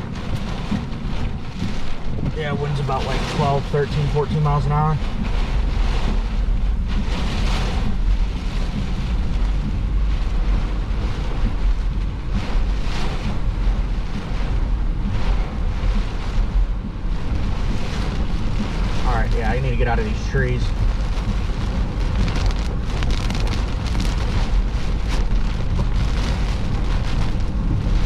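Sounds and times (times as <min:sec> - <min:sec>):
storm wind buffeting microphone: 0:00.0 - 0:28.0.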